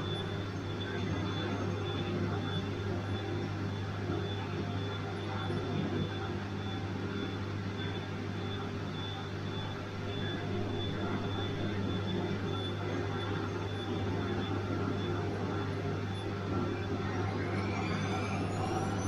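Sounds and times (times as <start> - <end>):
faint high-pitched whine: 0.0 - 19.0
washing machine humming and whirring: 0.0 - 19.0.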